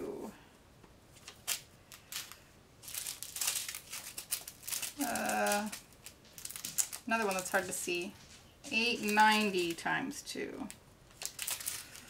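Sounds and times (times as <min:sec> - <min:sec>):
plastic bags crinkling: 0:01.2 - 0:12.0.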